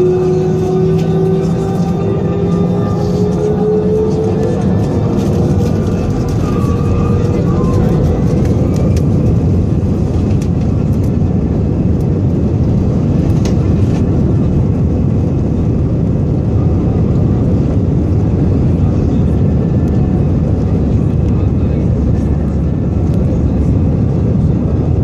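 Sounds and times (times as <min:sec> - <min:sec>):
airplane cabin engine rumble: 0:00.0 - 0:25.0.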